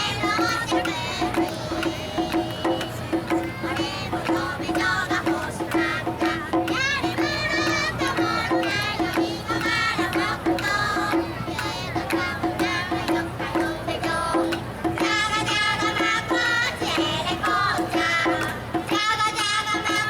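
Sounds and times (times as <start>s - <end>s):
person singing wavering melody: 0.0s - 20.0s
pulsing folk accompaniment: 0.0s - 20.0s
taiko drums: 0.0s - 20.0s.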